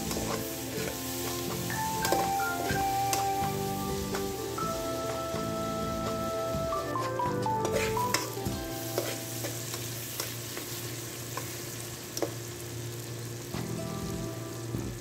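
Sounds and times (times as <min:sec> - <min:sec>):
onions and tomatoes sizzling in oil: 0:00.0 - 0:15.0.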